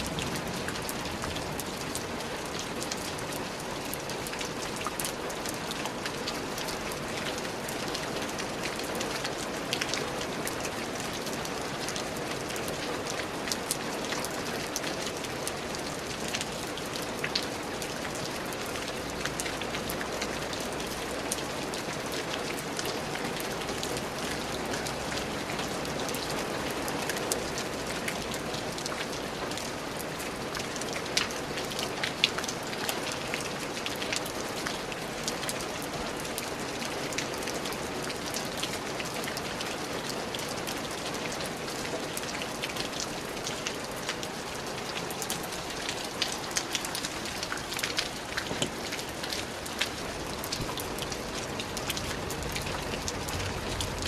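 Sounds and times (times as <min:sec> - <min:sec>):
raindrops pattering: 0:00.0 - 0:54.0
steady rain hiss: 0:00.0 - 0:54.0.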